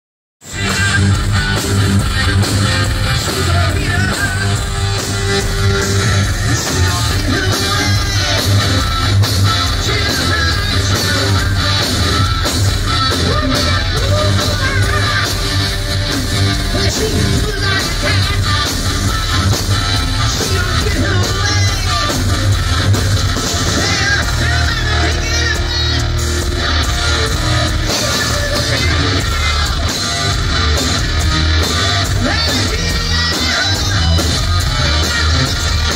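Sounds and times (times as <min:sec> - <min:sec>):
live rock band playing: 0:00.4 - 0:35.9.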